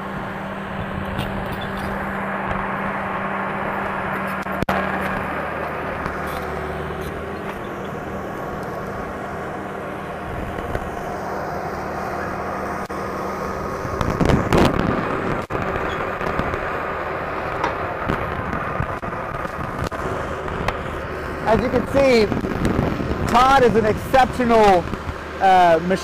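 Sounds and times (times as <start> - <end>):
bulldozer engine drone: 0.0 - 26.0.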